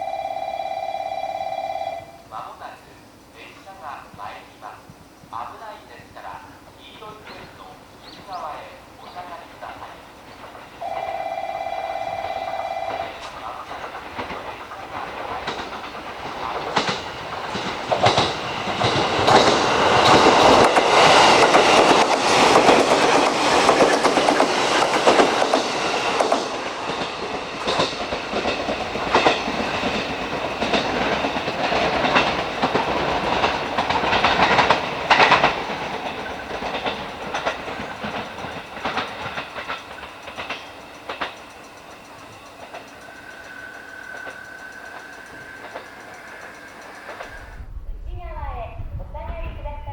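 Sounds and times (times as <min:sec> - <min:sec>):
train wheels clicking over rail joints: 0:06.9 - 0:47.6.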